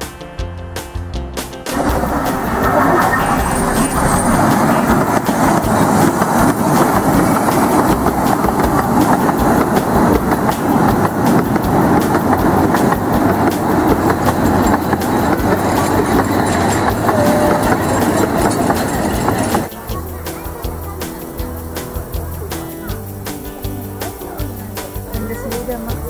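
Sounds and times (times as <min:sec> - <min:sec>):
small train rolling past: 0:01.7 - 0:26.0
wheels clicking over rail joints: 0:01.7 - 0:26.0.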